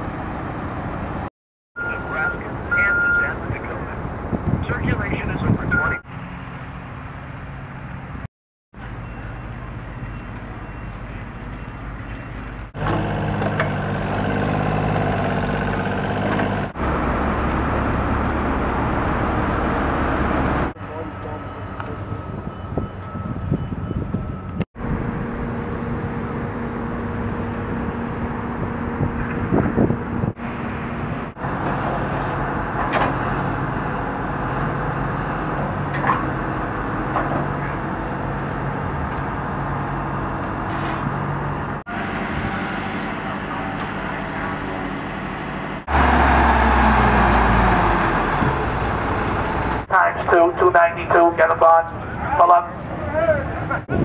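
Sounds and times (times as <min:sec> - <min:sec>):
dump truck diesel drone: 0:05.7 - 0:54.0.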